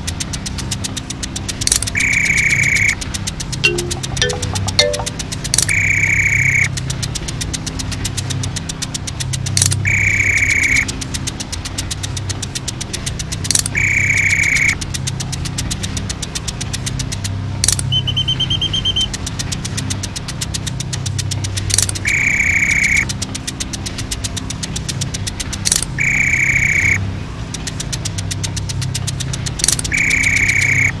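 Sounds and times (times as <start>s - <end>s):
rapid even clicking: 0.0s - 5.7s, 6.7s - 17.9s, 19.1s - 31.0s.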